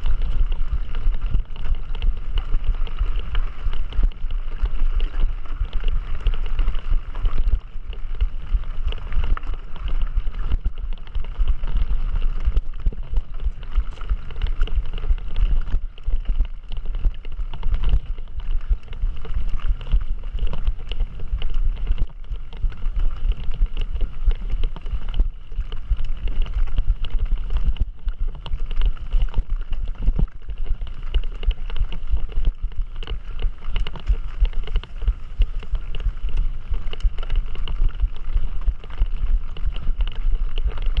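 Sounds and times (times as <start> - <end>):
mountain bike rattling over rough ground: 0.0 - 41.0
wind buffeting microphone: 0.0 - 41.0.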